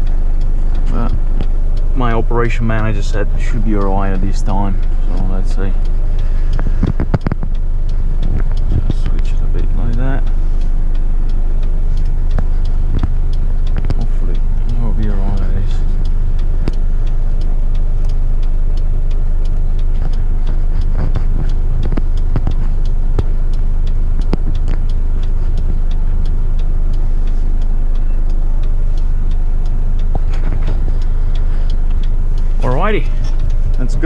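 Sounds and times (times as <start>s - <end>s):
diesel truck engine running: 0.0s - 34.0s
light ticks and clicks: 0.0s - 34.0s.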